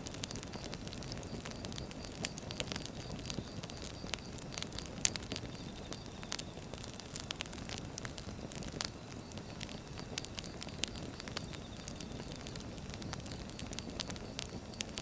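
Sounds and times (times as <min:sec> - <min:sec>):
firewood crackling and popping: 0:00.0 - 0:15.0
low rumble of flame: 0:00.0 - 0:15.0.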